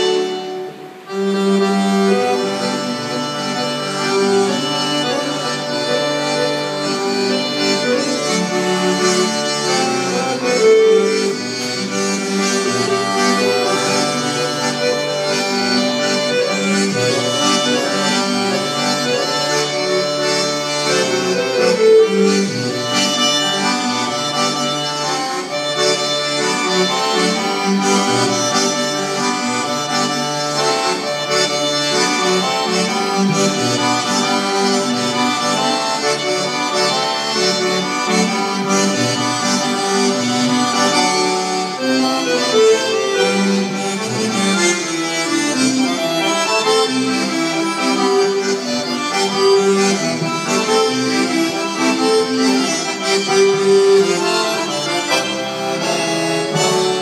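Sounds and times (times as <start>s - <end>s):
accordion playing solo: 0.0s - 57.0s.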